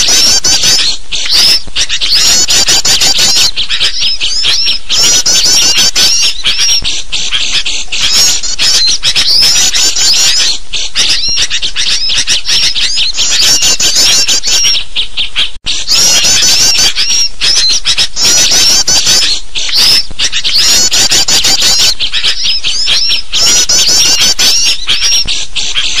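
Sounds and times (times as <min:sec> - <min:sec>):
bulbuls calling: 0:00.0 - 0:26.0
songbirds chirping: 0:00.0 - 0:26.0.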